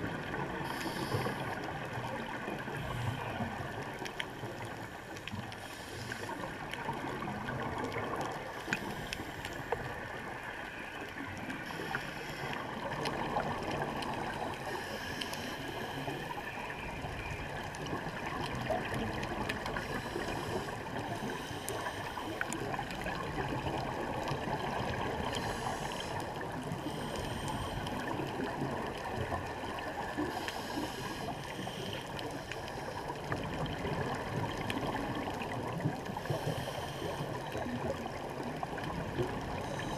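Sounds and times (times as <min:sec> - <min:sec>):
faint underwater clicks: 0:00.0 - 0:39.9
muffled underwater wash: 0:00.0 - 0:39.9
scuba bubbles gurgling: 0:00.0 - 0:39.9.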